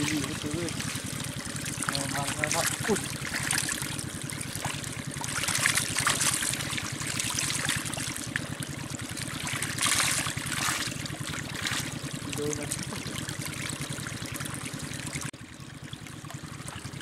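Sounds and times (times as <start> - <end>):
water running and splashing: 0.0 - 15.3.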